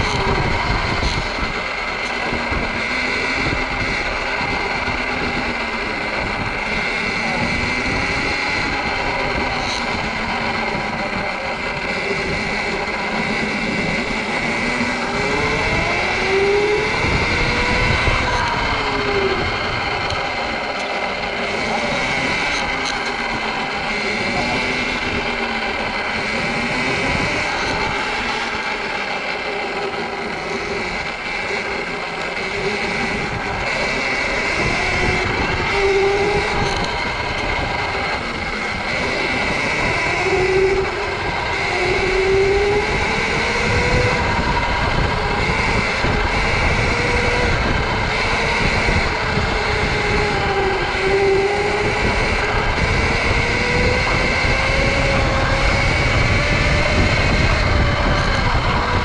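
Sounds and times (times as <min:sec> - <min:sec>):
electric motor whine: 0:00.0 - 0:59.0
wind and tyre noise: 0:00.0 - 0:59.0.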